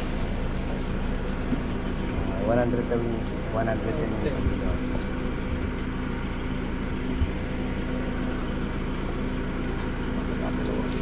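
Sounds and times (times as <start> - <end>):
motor humming steadily: 0.0 - 11.0.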